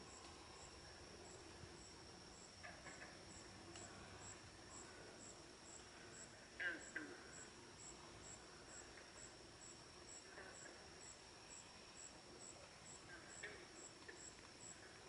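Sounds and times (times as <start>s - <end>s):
cricket chirping: 0.0s - 15.0s
insects trilling: 0.0s - 15.0s.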